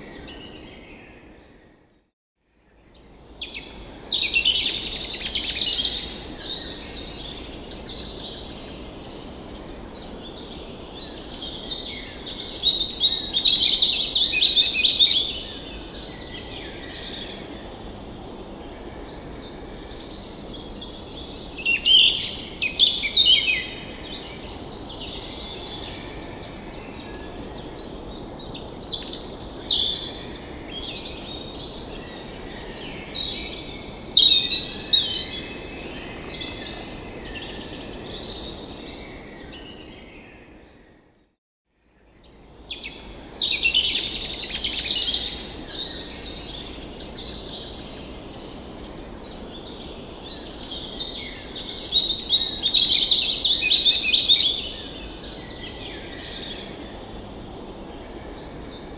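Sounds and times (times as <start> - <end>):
songbirds singing and calling: 2.8 - 41.1, 42.0 - 58.9.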